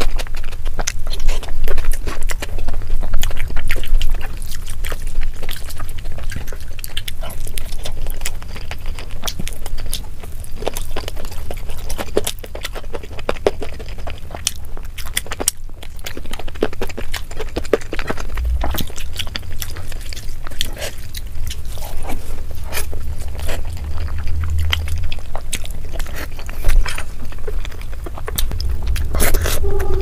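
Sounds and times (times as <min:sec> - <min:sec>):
low steady hum: 0:00.0 - 0:30.0
wet chewing and lip smacks: 0:00.0 - 0:30.0.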